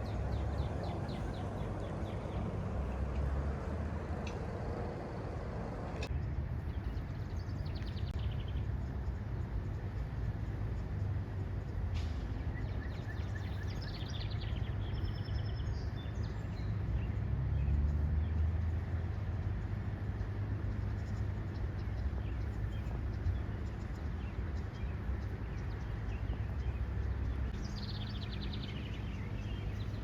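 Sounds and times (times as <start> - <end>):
songbirds trilling and whistling: 0.0 - 4.9, 5.8 - 30.0.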